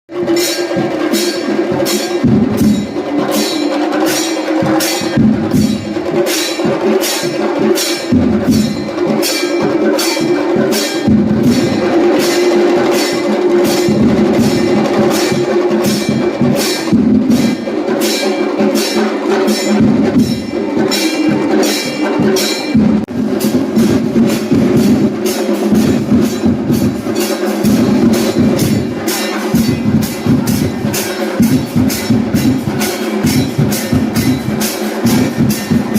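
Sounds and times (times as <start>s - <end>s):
percussive beat: 0.1s - 35.9s.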